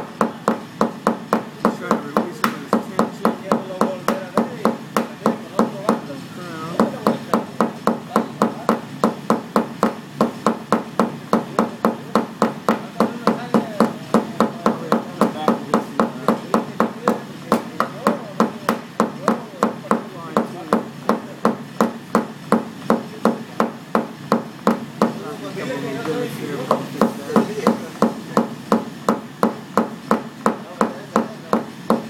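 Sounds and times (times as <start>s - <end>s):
hammer tapping on sheet metal: 0.0s - 25.4s, 26.0s - 32.0s.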